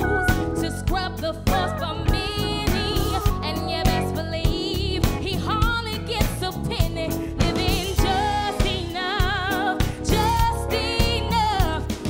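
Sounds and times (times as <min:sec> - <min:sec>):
bass: 0:00.0 - 0:12.0
drums on a steady beat: 0:00.0 - 0:12.0
keyboards: 0:00.0 - 0:12.0
woman singing into microphone: 0:00.0 - 0:12.0.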